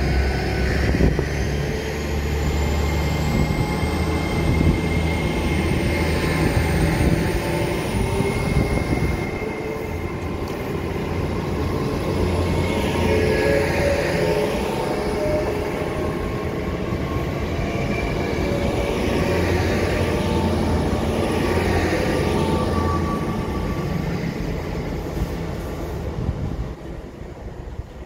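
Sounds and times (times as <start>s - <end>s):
train engine hum: 0.0s - 28.0s.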